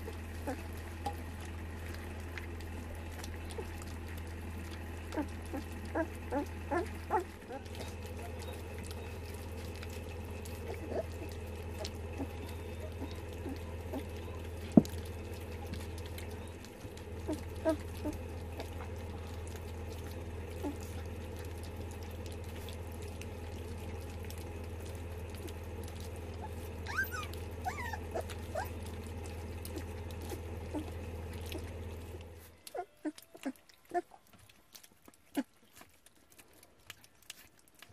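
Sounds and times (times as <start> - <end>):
low hum: 0.0 - 32.7
puppies lapping and slurping: 0.0 - 37.9.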